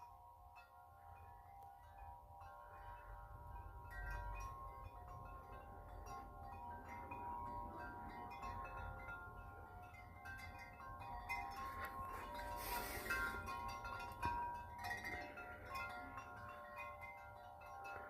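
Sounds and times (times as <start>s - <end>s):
wind chime ringing: 0.0s - 18.0s.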